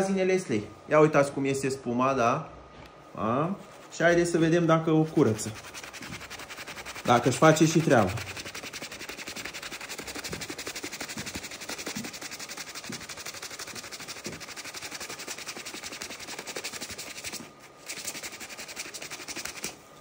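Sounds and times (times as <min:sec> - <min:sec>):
brush scrubbing a sneaker: 0:03.5 - 0:19.8.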